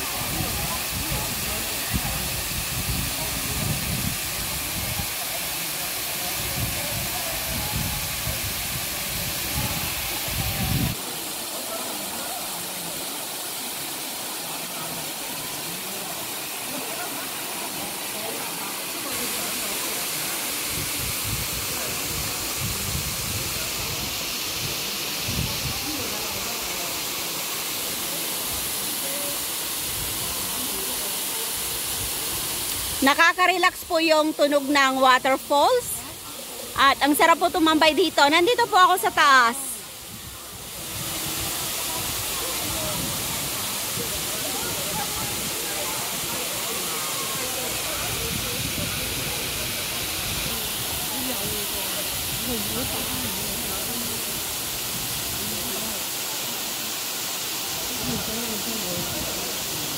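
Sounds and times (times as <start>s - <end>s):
waterfall rushing hiss: 0.0s - 59.9s.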